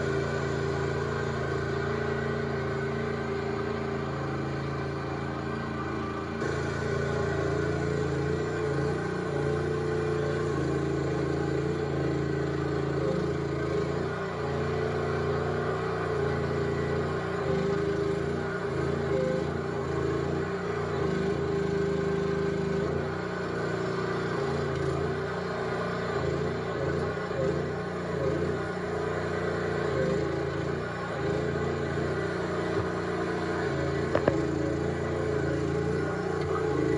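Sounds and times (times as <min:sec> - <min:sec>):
skid steer engine running: 0:00.0 - 0:36.9.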